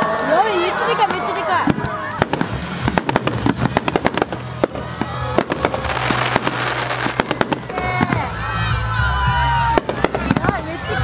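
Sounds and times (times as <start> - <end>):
fireworks crackling: 0.0 - 8.6, 9.5 - 11.0
fireworks bangs: 0.8 - 8.4, 9.7 - 11.0.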